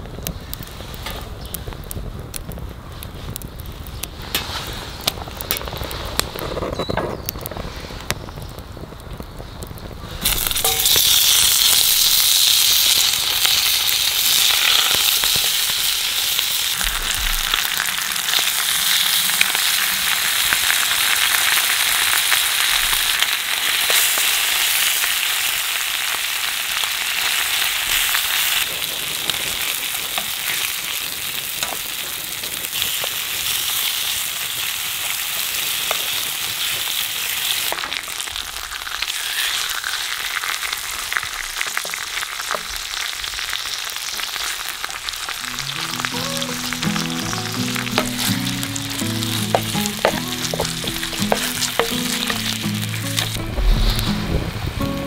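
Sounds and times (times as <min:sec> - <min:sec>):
bacon sizzling in frying pan: 0:10.2 - 0:55.0.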